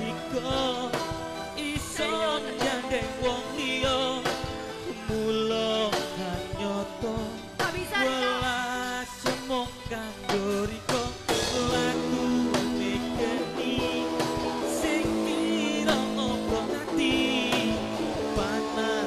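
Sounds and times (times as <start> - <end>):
electronic keyboard melody: 0.0 - 19.0
live band playing: 0.0 - 19.0.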